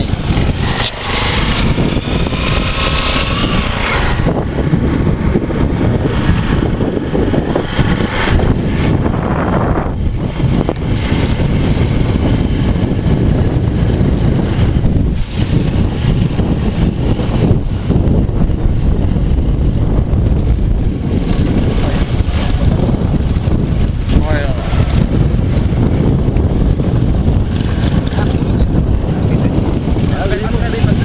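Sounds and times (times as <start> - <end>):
motorcycle engine running: 0.0 - 31.0
wind rumble on microphone: 0.0 - 31.0.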